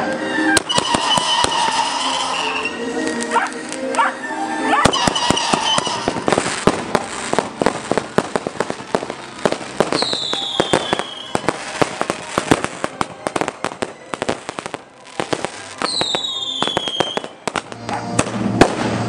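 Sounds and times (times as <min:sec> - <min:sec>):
descending firework whistle: 0:00.0 - 0:03.6, 0:04.2 - 0:19.0
fireworks cracking and banging: 0:00.0 - 0:04.1, 0:04.8 - 0:19.0.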